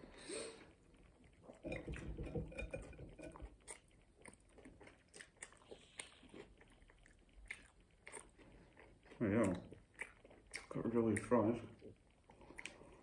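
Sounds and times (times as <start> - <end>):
close-up chewing and crunching: 0.5 - 13.0.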